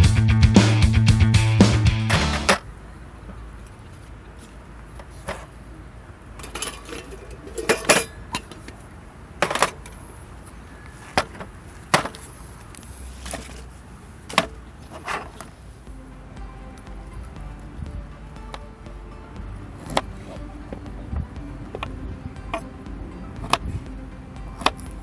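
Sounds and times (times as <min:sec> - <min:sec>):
low steady hum: 0:02.1 - 0:25.0.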